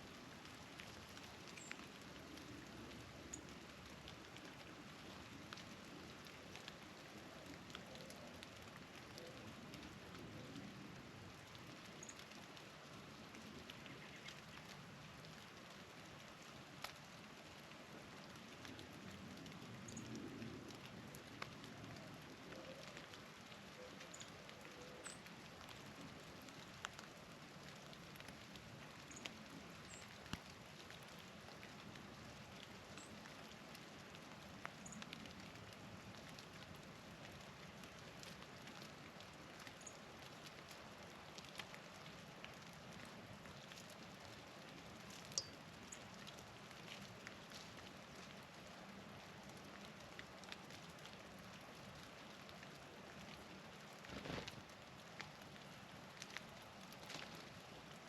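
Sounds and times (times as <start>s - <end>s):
patter of wet snow and drips: 0.0s - 58.0s.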